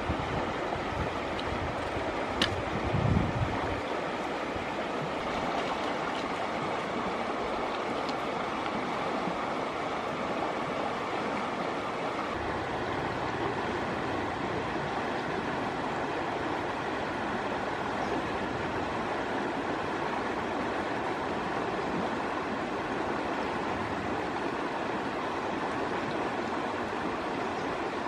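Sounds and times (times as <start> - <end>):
flowing river water: 0.0 - 28.0.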